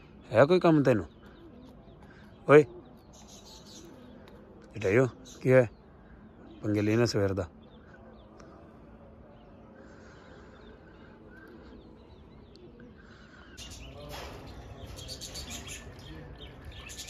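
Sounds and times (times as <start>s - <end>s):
faint outdoor background: 0.0s - 17.0s
small birds chirping: 0.0s - 17.0s.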